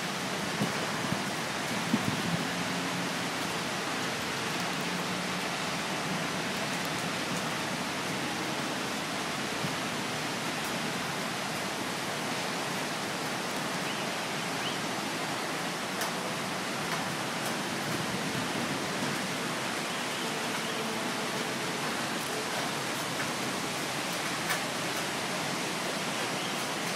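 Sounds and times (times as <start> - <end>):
heavy rain rushing: 0.0 - 26.9
raindrops ticking on surfaces: 0.0 - 26.9.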